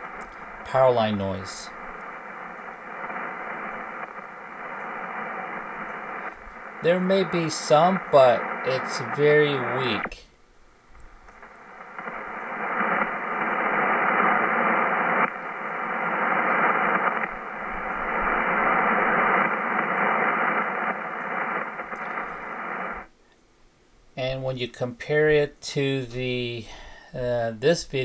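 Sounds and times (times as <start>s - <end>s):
radio band noise hiss: 0.0s - 23.2s, 24.2s - 28.0s.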